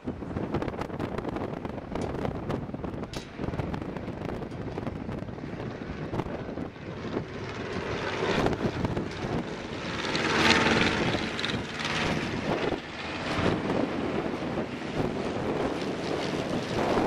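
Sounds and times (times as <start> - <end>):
propeller planes flying overhead: 0.0 - 17.0.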